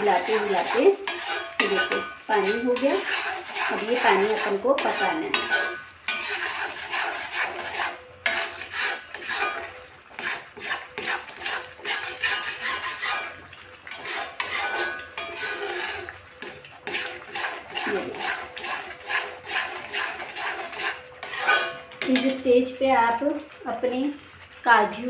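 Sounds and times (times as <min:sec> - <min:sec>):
metal spatula scraping a pan: 0:00.0 - 0:22.5.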